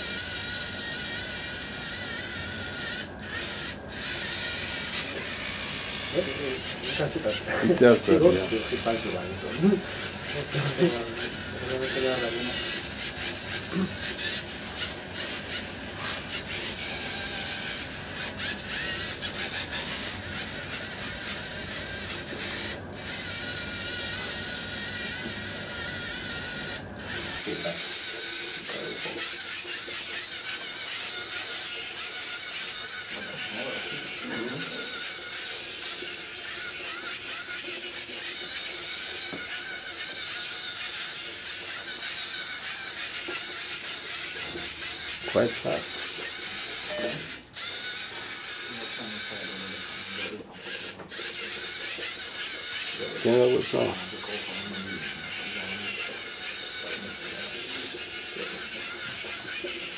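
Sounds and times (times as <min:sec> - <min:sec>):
robot motors and gears whirring: 0:00.0 - 0:59.9.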